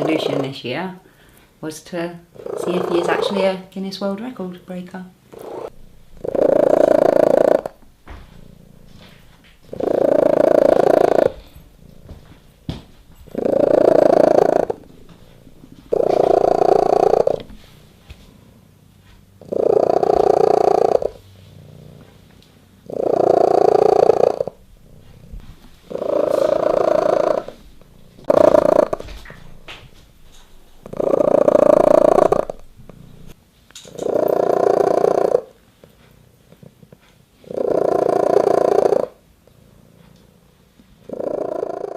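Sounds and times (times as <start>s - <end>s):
cat purring loudly: 0.0s - 0.8s, 2.3s - 3.7s, 5.3s - 41.9s.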